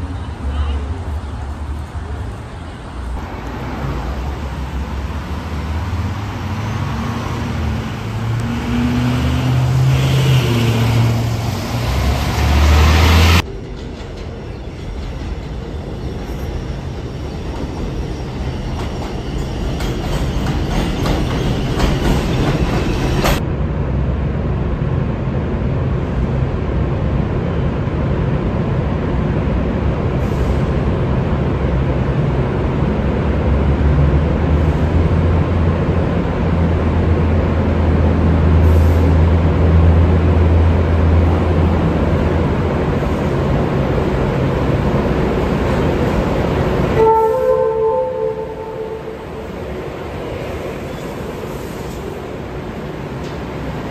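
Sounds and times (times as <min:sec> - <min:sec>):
elevated subway train running: 0:00.0 - 0:53.9
underground subway train approaching: 0:00.0 - 0:53.9.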